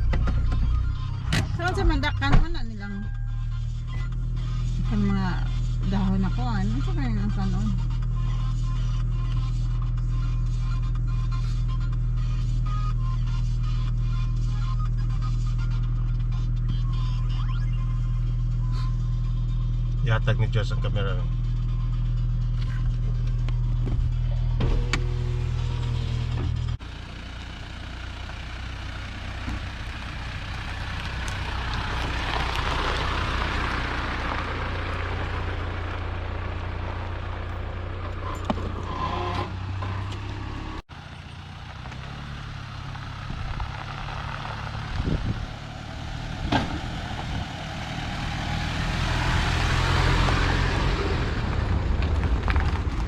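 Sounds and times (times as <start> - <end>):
car engine rumble: 0.0 - 53.0
road noise: 0.0 - 53.0.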